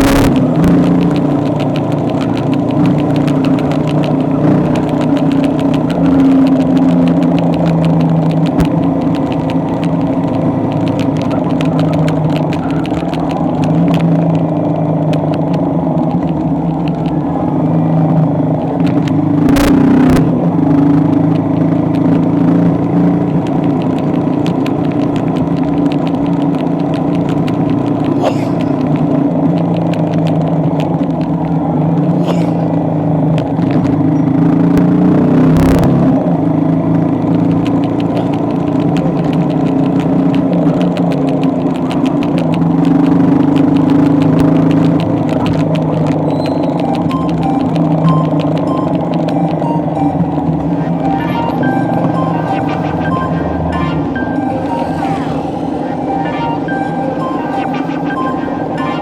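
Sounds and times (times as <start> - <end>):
engine rumbling: 0.0 - 59.0.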